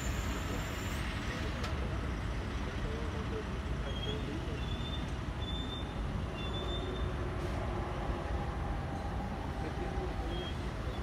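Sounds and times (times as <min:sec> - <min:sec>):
light-rail train rumbling: 0:00.0 - 0:11.0.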